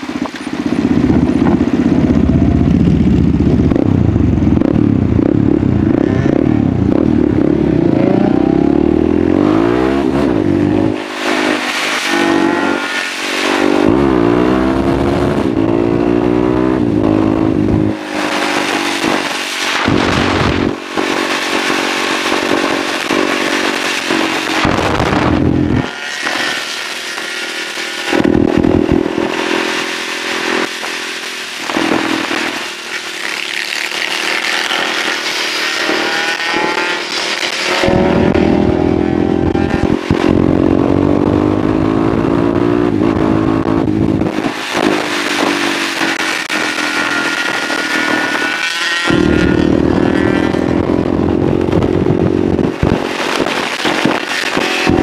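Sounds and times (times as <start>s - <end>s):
wind rushing over microphone: 0.0s - 33.0s, 35.8s - 55.0s
motorcycle engine accelerating: 0.0s - 55.0s.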